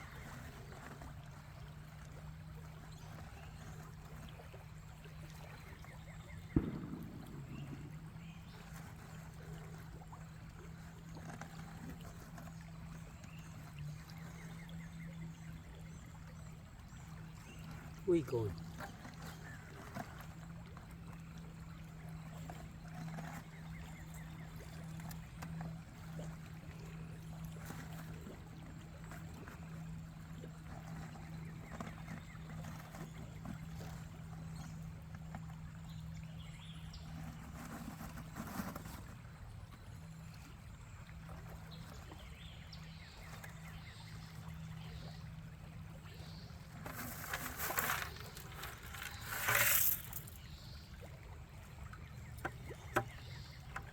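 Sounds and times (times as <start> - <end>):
creek water flowing and trickling: 0.0 - 53.9.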